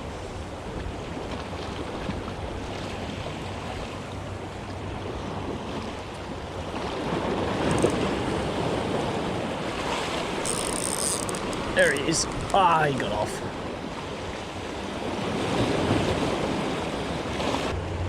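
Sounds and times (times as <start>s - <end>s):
ocean surf on rocks: 0.0s - 18.0s.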